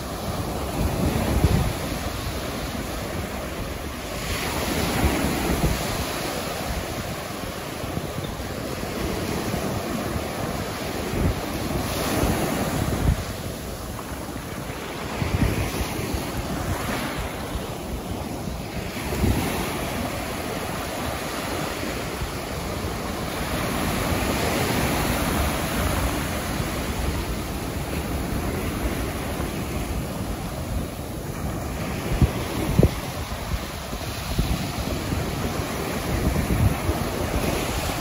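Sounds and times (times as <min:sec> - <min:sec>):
small waves breaking on beach: 0:00.0 - 0:38.0
wind buffeting microphone: 0:00.0 - 0:38.0.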